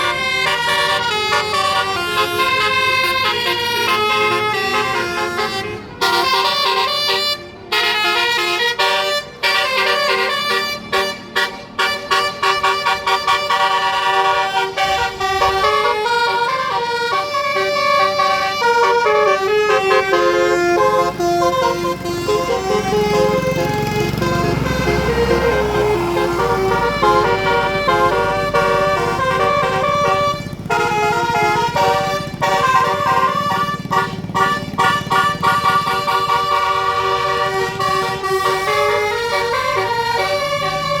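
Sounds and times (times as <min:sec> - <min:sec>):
musical air horn on a bus: 0:00.0 - 0:41.0.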